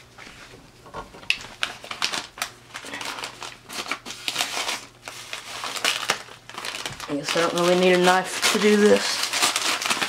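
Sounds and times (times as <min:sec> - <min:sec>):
cardboard and plastic rustling: 0:00.0 - 0:10.0.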